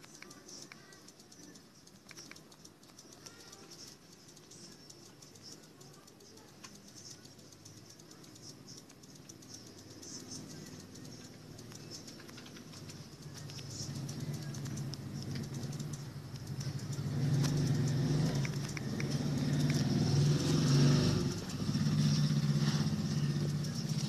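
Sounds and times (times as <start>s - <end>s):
steady motor hum: 0.0s - 24.0s.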